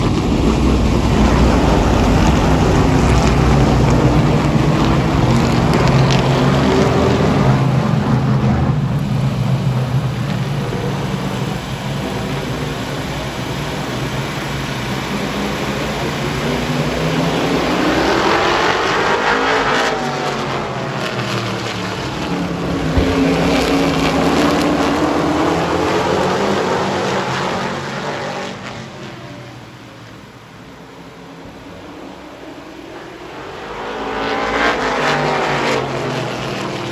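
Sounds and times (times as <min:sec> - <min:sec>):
race truck engines droning: 0:00.0 - 0:36.9
truck passing close: 0:00.0 - 0:36.9.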